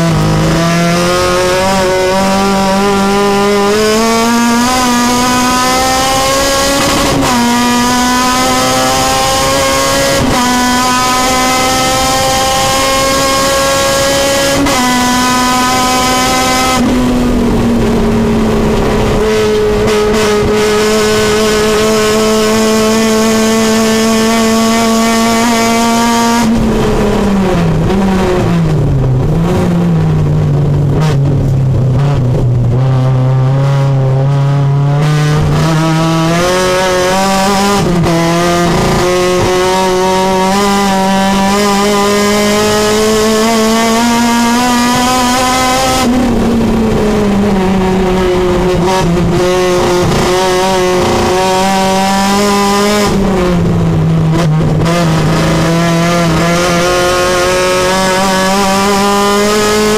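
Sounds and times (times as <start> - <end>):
car engine revving under load: 0.0 - 59.9.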